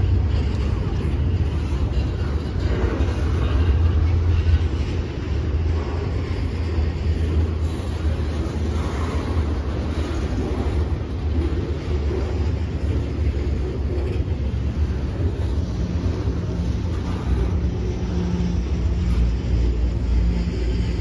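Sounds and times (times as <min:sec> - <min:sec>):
freight train wheels rumbling on rails: 0:00.0 - 0:21.0.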